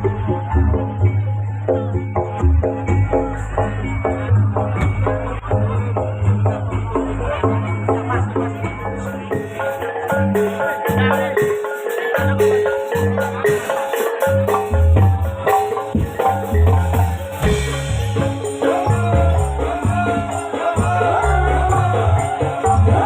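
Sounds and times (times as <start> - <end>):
metallophones playing melody: 0.0 - 23.0.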